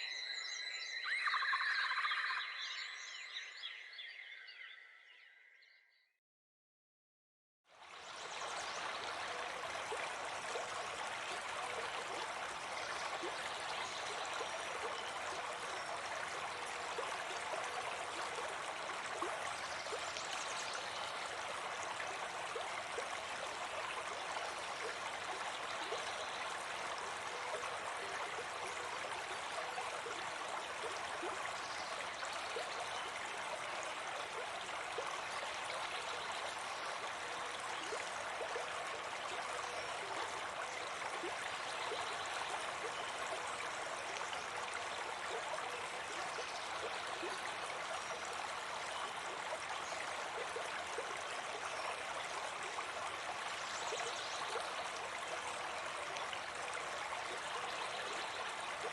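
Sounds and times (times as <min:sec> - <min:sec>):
running water: 0:07.7 - 0:58.9.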